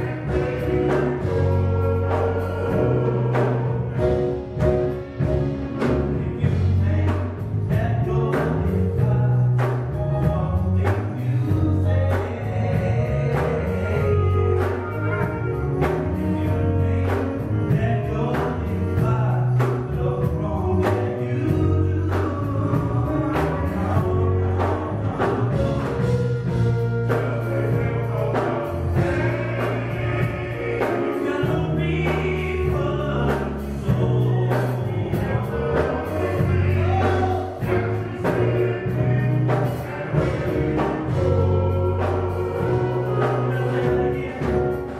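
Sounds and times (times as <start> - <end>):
bass line: 0.0 - 44.9
drums: 0.0 - 44.9
keyboard: 0.0 - 44.9
men's group singing gospel: 0.0 - 44.9.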